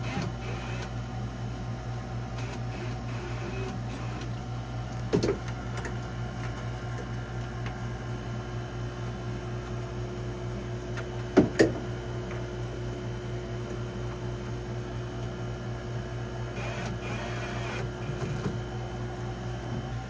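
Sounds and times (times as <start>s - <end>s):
machine hum: 2.2s - 10.8s, 11.8s - 20.0s.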